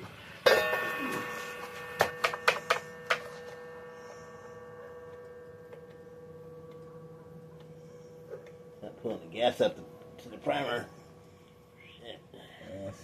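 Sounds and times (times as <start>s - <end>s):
struck metal ringing: 0.4s - 12.4s.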